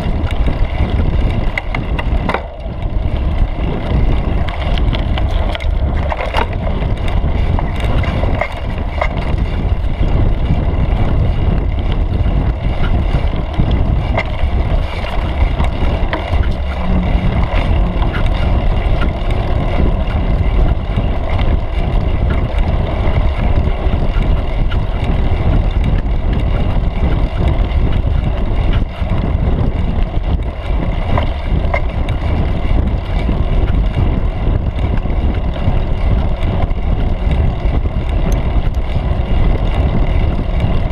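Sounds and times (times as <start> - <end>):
bike tyre and frame rumble: 0.0 - 40.9
small rattles and clicks: 0.0 - 40.9
wind buffeting microphone: 0.0 - 40.9.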